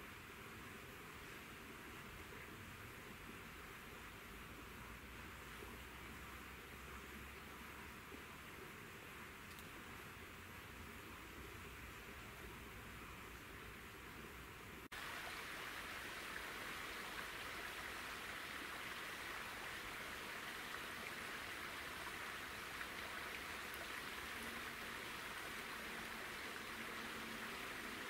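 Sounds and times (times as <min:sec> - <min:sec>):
soft outdoor hiss: 0:00.0 - 0:28.0.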